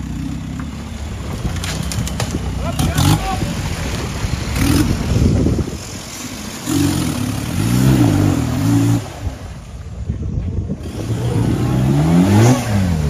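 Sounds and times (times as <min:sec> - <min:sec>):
buggy engine revving: 0:00.0 - 0:10.0, 0:10.7 - 0:13.0.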